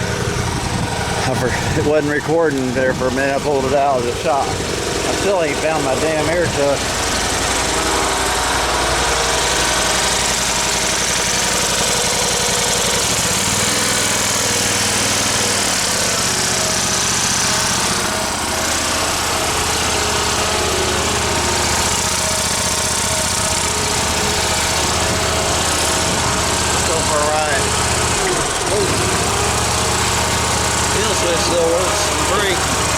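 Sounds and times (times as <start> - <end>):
mower engine running: 0.0 - 32.9.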